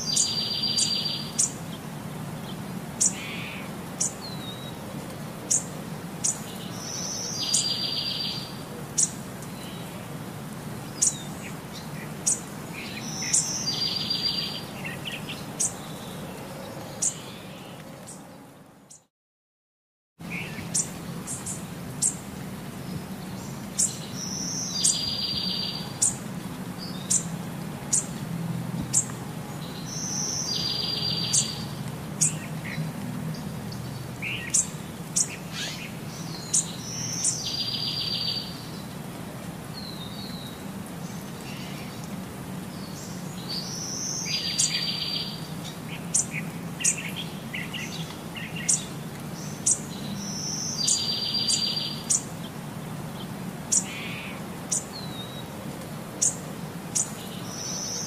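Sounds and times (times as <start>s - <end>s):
small birds chirping: 0.0s - 10.1s, 10.7s - 19.1s, 20.2s - 58.0s.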